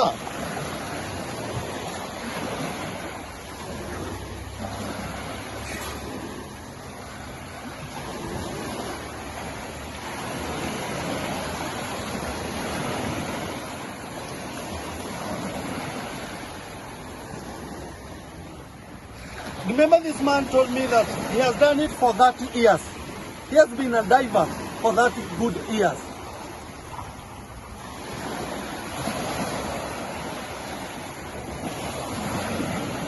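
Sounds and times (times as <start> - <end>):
surf washing on shore: 0.0 - 33.0.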